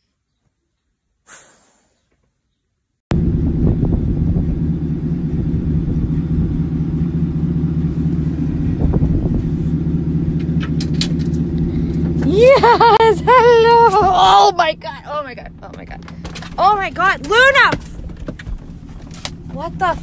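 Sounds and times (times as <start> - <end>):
vehicle engine idling: 3.1 - 20.0.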